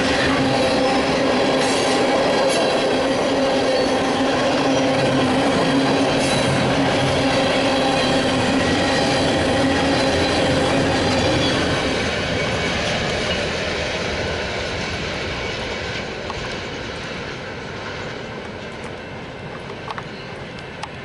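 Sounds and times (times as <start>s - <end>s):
train wheels clattering: 0.0s - 17.4s.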